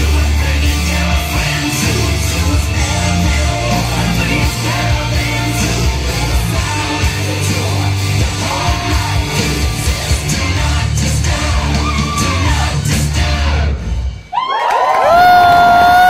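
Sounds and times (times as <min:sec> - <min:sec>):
loud rock song with singer: 0:00.0 - 0:14.3.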